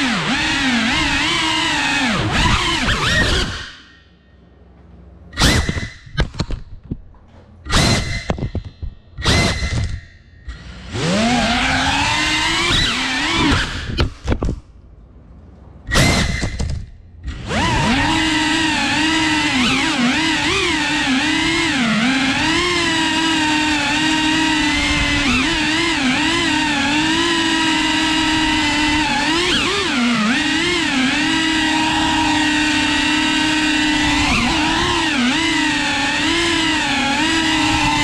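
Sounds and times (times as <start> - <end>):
drone motors whining: 0.0 - 4.4, 5.3 - 7.0, 7.7 - 14.5, 15.8 - 38.0.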